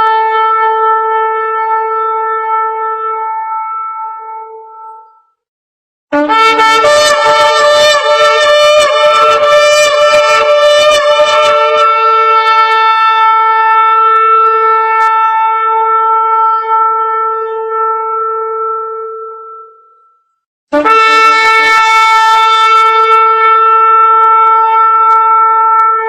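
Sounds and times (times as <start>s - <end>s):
big trumpet long buzzing note: 0.0s - 5.1s, 6.1s - 20.0s, 20.7s - 26.0s.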